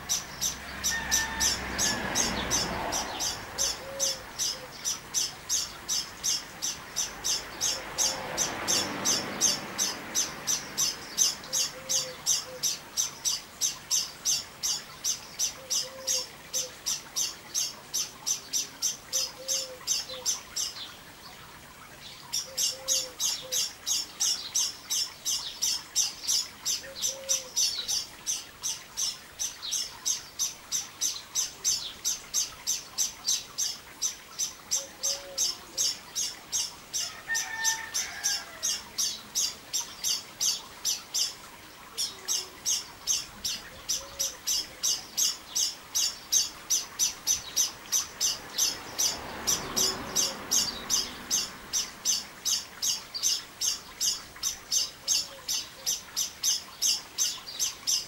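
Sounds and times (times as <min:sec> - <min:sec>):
lower calls: 0:00.0 - 0:20.9, 0:22.3 - 0:58.0.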